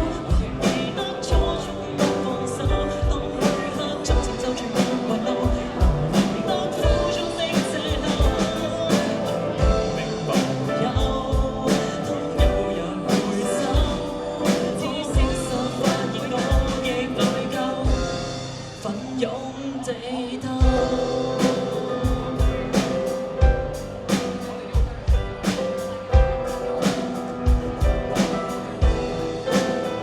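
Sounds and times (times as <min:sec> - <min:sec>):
drum kit beat: 0:00.0 - 0:19.1, 0:20.6 - 0:30.0
live band playing: 0:00.0 - 0:19.3, 0:20.6 - 0:30.0
keyboard: 0:00.0 - 0:30.0.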